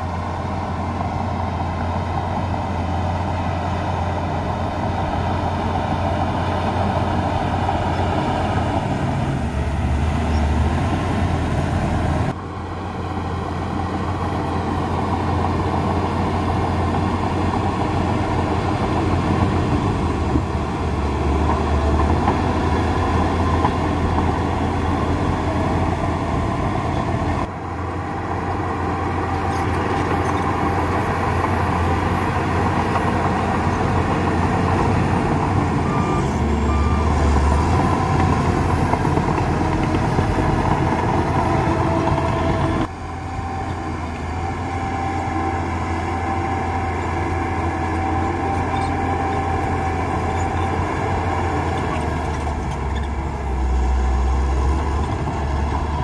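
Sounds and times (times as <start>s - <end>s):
heavy machinery engine drone: 0.0s - 56.0s.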